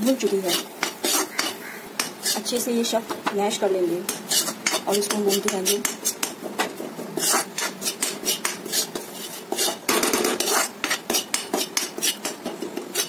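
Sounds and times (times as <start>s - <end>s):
metal spoon scraping metal pan: 0.0s - 13.0s.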